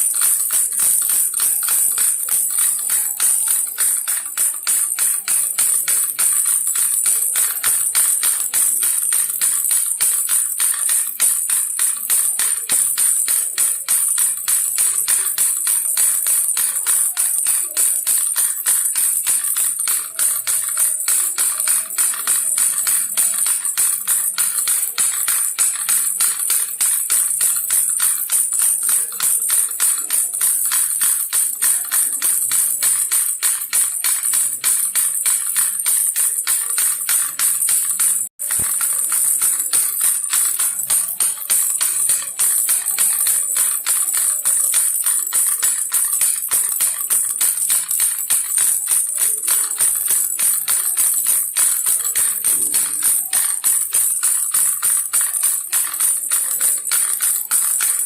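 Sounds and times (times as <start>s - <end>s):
baby rattle shaken: 0.0s - 58.0s.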